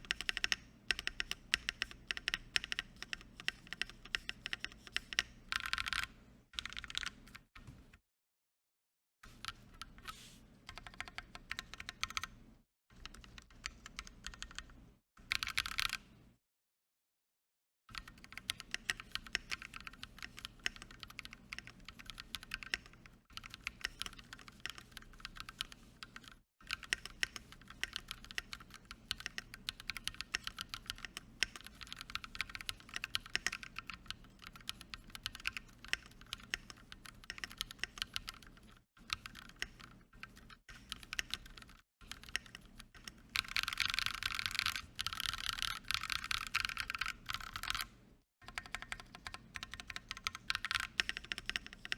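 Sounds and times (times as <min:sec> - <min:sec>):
mechanical keyboard typing: 0:00.0 - 0:07.5, 0:10.7 - 0:12.3, 0:13.0 - 0:14.7, 0:15.3 - 0:16.0, 0:18.0 - 0:51.9.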